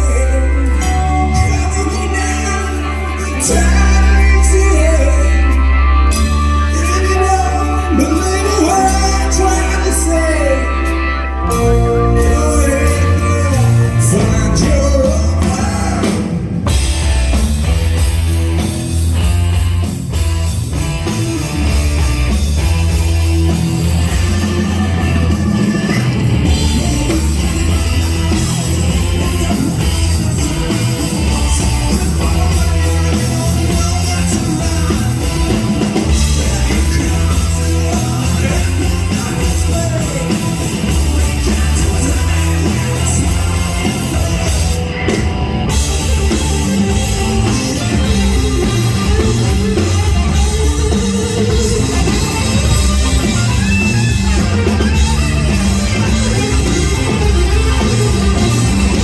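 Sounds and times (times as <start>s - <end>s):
drum kit: 0.0s - 59.0s
electric guitar: 0.0s - 59.0s
heavy bass line: 0.0s - 59.0s.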